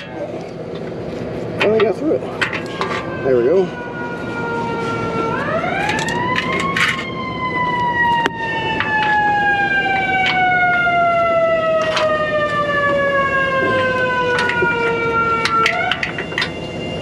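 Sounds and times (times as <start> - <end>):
fire engine siren: 2.4 - 17.0.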